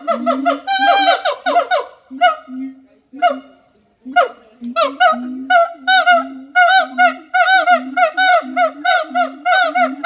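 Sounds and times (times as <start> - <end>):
apes hooting calls: 0.0 - 10.0.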